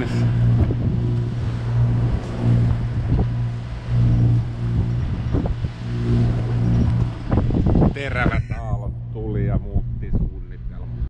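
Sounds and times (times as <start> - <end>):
boat engine humming: 0.0 - 11.0
wind noise on microphone: 0.0 - 11.0.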